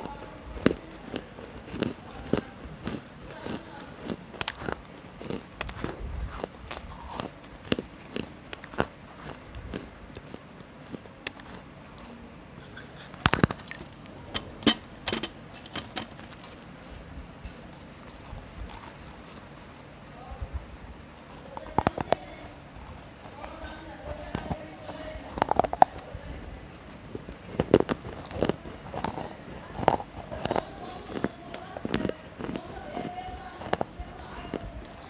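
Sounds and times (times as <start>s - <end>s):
clay cup crunching in teeth: 0.0s - 14.1s, 15.7s - 19.9s, 20.5s - 26.0s, 26.9s - 35.0s.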